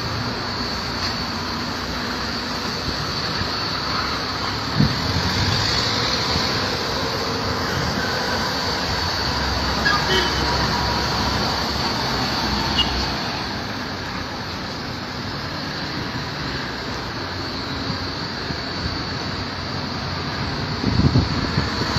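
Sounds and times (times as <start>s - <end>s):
car wash machinery whirring: 0.0s - 21.9s.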